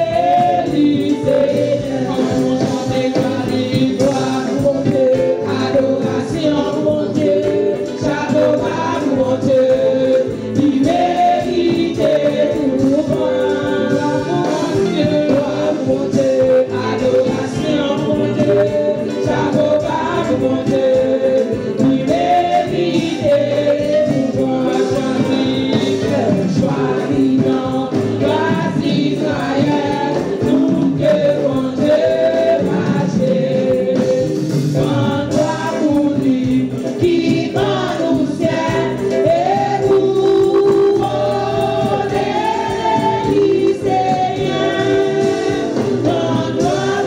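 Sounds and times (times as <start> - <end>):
choir singing gospel: 0.0 - 47.0
percussion and instruments: 0.0 - 47.0.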